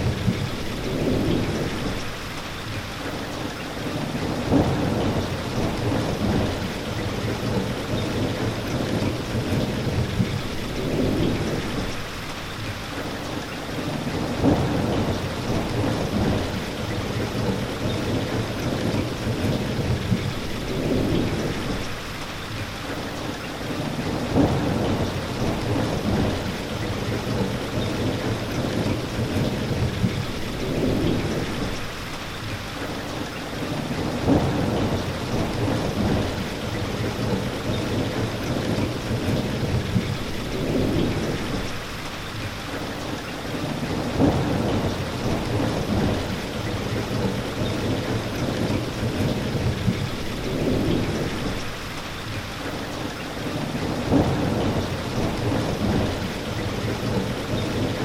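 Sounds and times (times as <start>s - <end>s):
thunder rumbling: 0.0s - 2.4s, 3.9s - 12.2s, 14.1s - 22.1s, 24.0s - 32.0s, 33.7s - 42.0s, 43.6s - 52.0s, 53.5s - 58.0s
steady rain falling: 0.0s - 58.0s.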